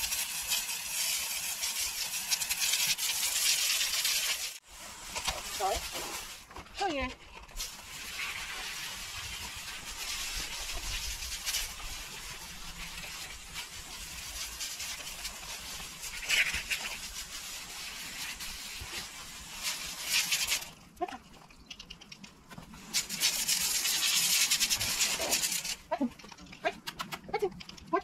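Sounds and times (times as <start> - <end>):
hose water spraying: 0.0 - 20.8, 22.6 - 26.0.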